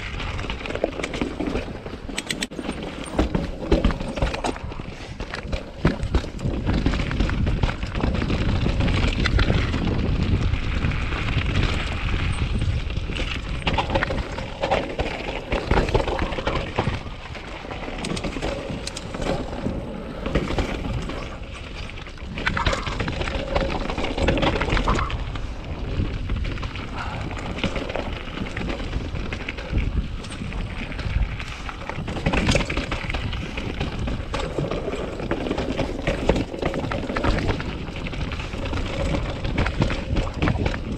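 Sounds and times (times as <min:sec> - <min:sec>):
bike knocks and clatter: 0:00.0 - 0:40.9
tyres rushing on dirt: 0:00.0 - 0:40.9.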